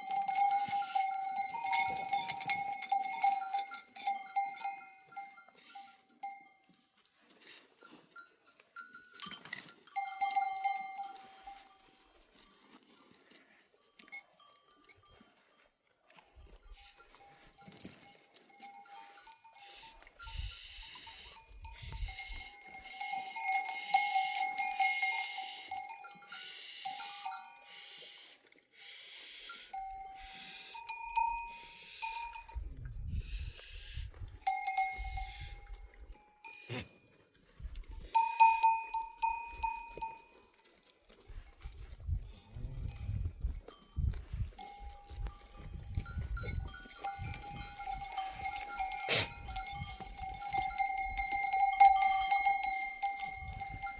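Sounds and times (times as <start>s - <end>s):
goat bells clanking: 0.0s - 28.0s, 29.4s - 33.3s, 34.1s - 53.9s.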